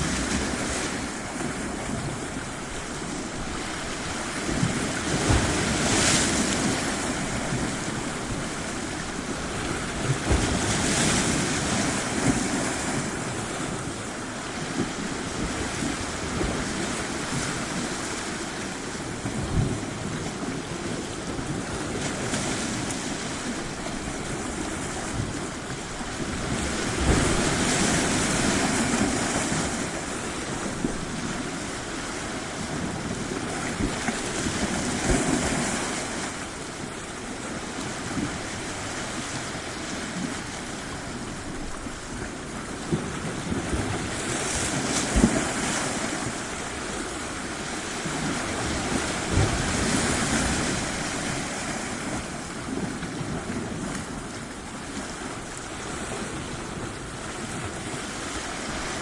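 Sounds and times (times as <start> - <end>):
surf washing onto shore: 0.0 - 59.0
wind buffeting microphone: 0.0 - 59.0.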